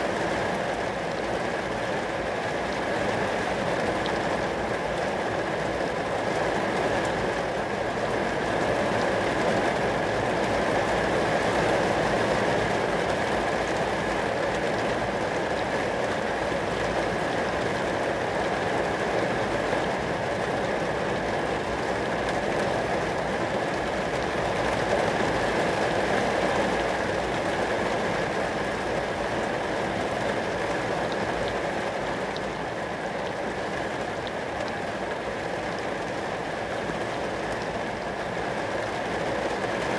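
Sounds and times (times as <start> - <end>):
rain falling on glass: 0.1 - 39.9.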